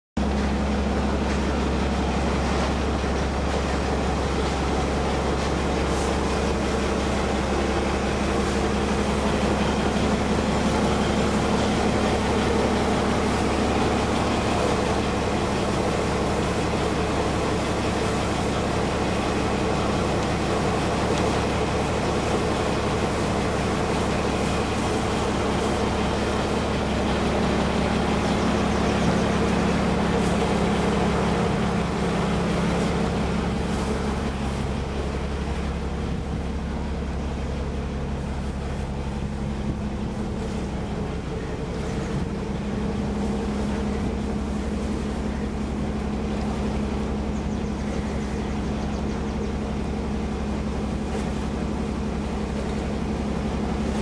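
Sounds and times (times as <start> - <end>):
boat engine drone: 0.2 - 54.0.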